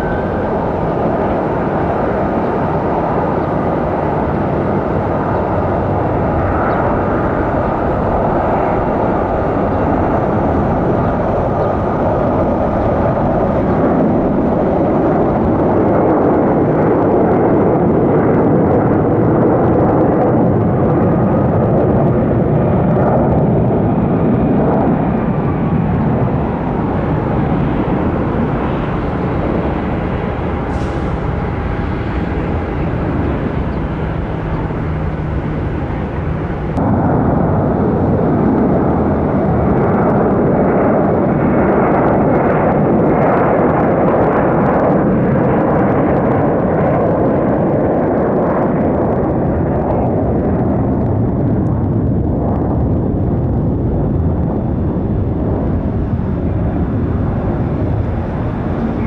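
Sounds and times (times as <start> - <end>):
jet airliner engines running: 0.0 - 59.0.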